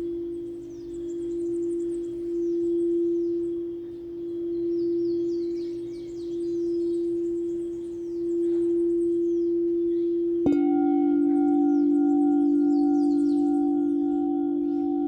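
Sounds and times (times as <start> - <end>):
singing bowl humming: 0.0 - 15.0
singing bowl struck and ringing: 0.0 - 15.0.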